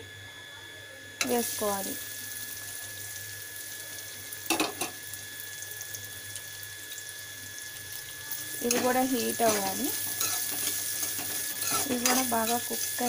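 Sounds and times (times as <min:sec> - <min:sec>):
onions sizzling in hot oil: 0:01.2 - 0:13.0.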